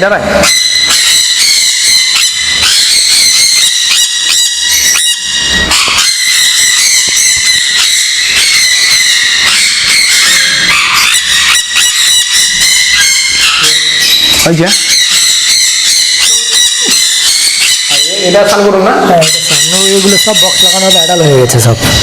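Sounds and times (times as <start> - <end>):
parrots calling: 0.0 - 22.0.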